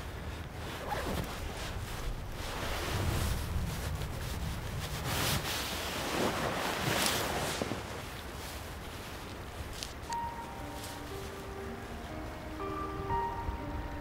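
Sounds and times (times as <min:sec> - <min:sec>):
clothing and backpack rustling: 0:00.0 - 0:12.6
wind: 0:00.0 - 0:14.0.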